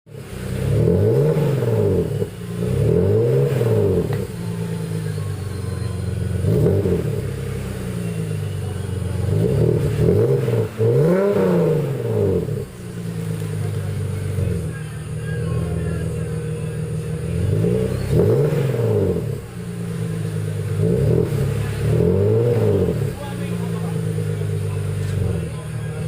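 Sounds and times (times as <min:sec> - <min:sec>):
car exhaust revving and idling: 0:00.0 - 0:26.0.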